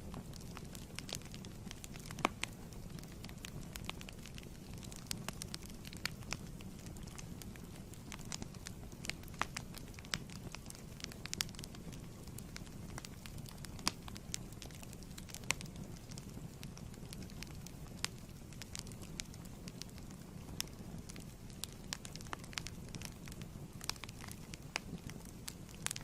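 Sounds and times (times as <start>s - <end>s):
fire burning with crackles and pops: 0.0s - 26.0s.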